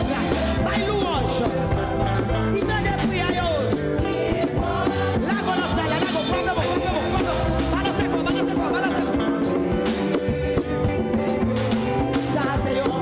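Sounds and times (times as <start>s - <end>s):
band playing worship music: 0.0s - 13.0s.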